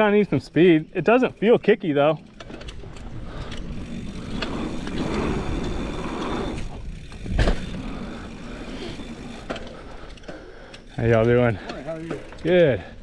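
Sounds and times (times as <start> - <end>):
bike tyres rolling over dirt: 0.0 - 13.0.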